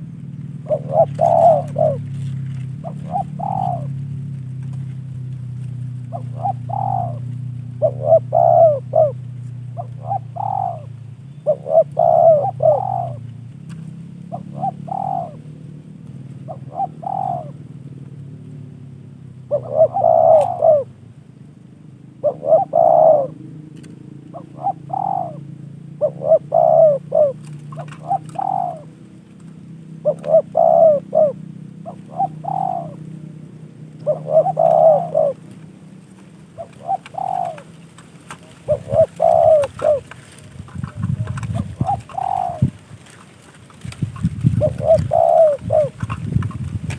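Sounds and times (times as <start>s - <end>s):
dove cooing: 0.0s - 18.1s, 19.4s - 21.0s, 22.1s - 46.9s
low steady hum: 0.0s - 46.9s.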